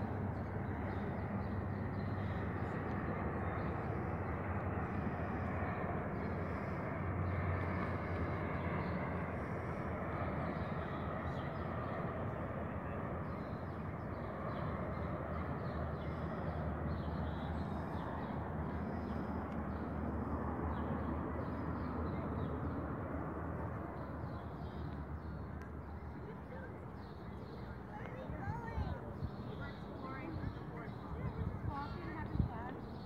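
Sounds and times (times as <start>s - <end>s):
turboprop engines droning: 0.0s - 33.0s.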